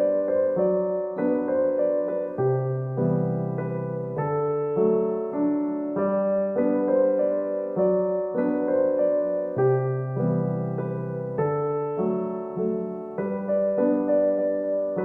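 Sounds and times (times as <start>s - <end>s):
soft piano piece: 0.0s - 15.0s.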